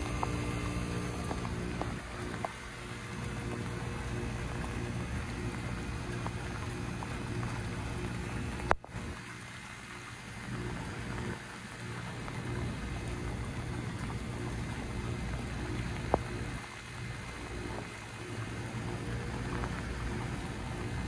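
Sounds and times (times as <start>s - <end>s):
heat pump humming: 0.0s - 21.0s
rain pattering on microphone: 0.0s - 21.0s.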